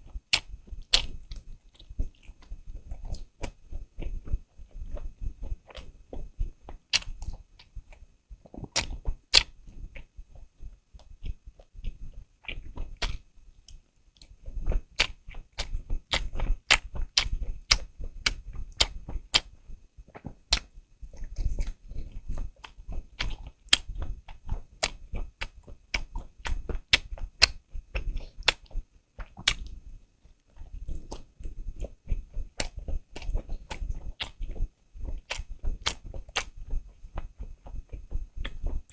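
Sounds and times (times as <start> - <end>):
chewing with wet mouth clicks: 0.0 - 38.9.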